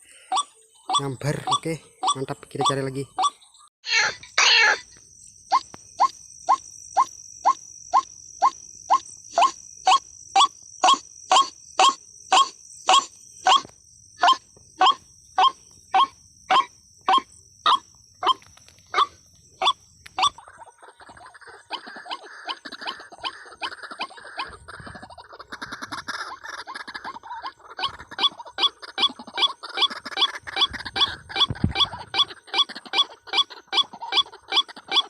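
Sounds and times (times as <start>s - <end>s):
high insect trill: 0.0s - 35.0s.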